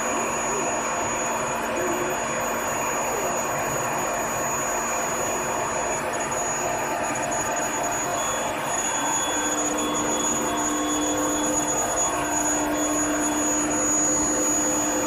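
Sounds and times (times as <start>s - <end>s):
furnace machine noise with hum: 0.0s - 15.0s
high-pitched whine: 0.0s - 15.0s.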